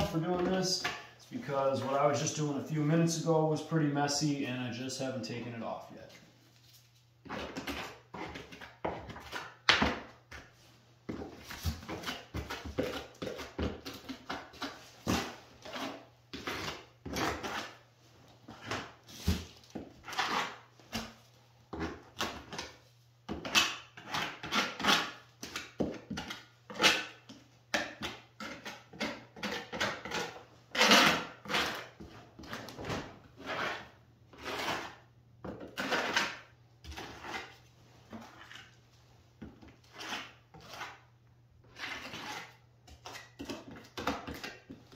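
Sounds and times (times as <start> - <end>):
trowel scraping plaster: 7.2 - 10.5, 11.1 - 38.8, 39.4 - 44.9.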